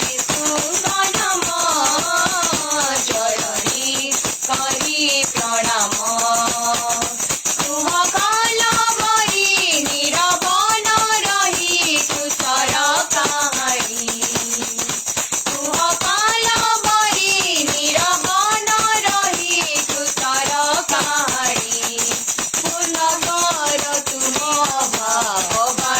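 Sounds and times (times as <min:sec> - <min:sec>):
instrumental worship music: 0:00.0 - 0:25.9
shaker-like percussion rhythm: 0:00.0 - 0:25.9.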